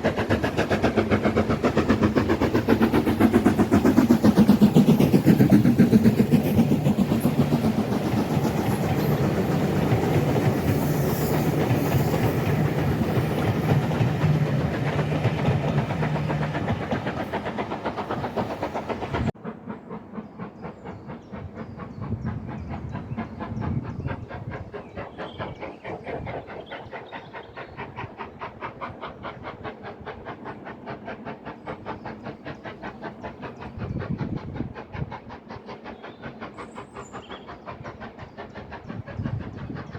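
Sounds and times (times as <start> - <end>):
train clattering: 0.0 - 39.9
train engine drone: 0.0 - 39.9
train wheel noise: 0.0 - 39.9.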